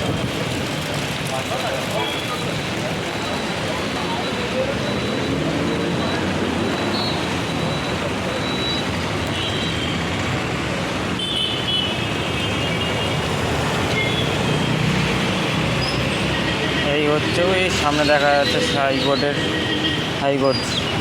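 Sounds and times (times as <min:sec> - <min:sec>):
heavy rain: 0:00.0 - 0:21.0
road traffic on wet road: 0:00.0 - 0:21.0.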